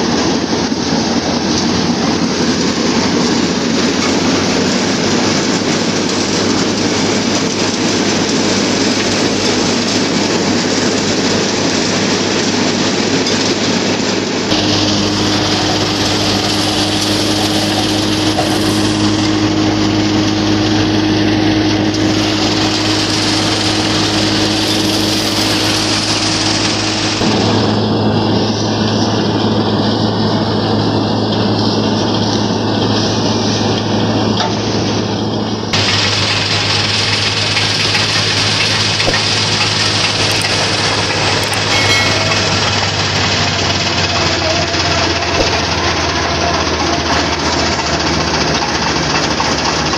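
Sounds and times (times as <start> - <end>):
machinery clatter: 0.0 - 49.9
tractor engine running: 0.0 - 49.9.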